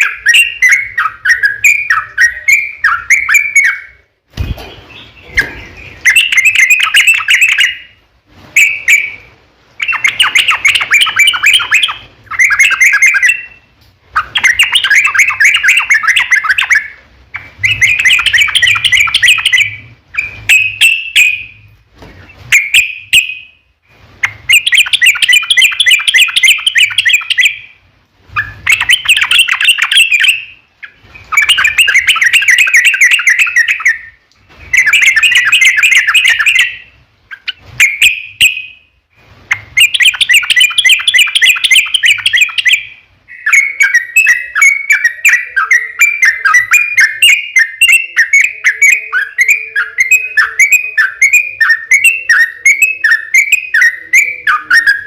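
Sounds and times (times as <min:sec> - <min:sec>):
bird singing rapid chattering song: 0:00.0 - 0:08.0, 0:08.6 - 0:21.6, 0:24.2 - 0:27.8, 0:28.4 - 0:38.8, 0:39.5 - 0:55.0.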